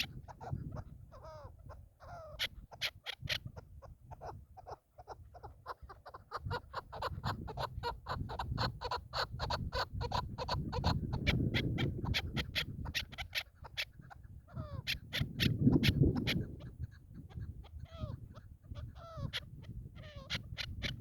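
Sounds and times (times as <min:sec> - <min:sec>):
low wind rumble: 0:00.0 - 0:21.0
partridge clucking calls: 0:00.0 - 0:21.0.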